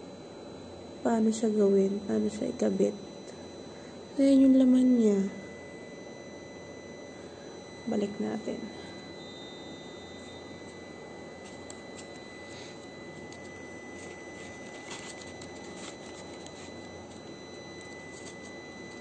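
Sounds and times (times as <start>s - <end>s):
thin high steady tone: 0.0s - 19.0s.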